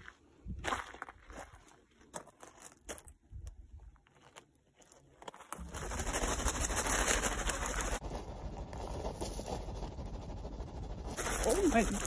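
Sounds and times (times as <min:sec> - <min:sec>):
footsteps on gravel: 0:00.0 - 0:09.8, 0:11.1 - 0:12.0.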